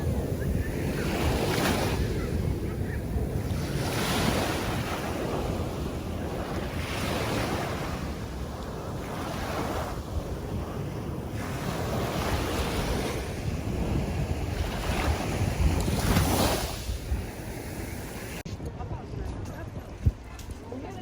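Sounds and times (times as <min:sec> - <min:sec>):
surf washing onto beach: 0:00.0 - 0:18.4
wind buffeting microphone: 0:00.0 - 0:21.0.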